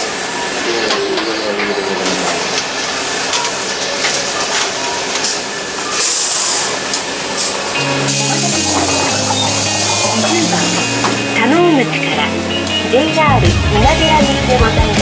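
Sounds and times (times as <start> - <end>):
train wheels running on rails: 0.0 - 15.0.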